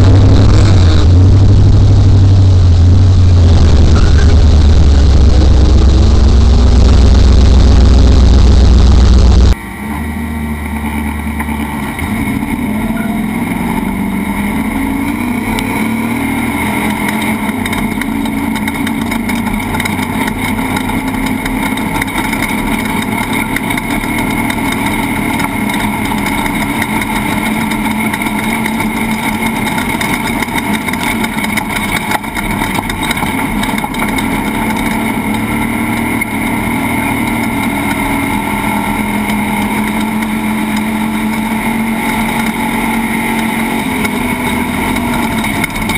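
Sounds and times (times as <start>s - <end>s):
rattling over rough track: 0.0s - 45.9s
truck engine running hard: 0.0s - 45.9s.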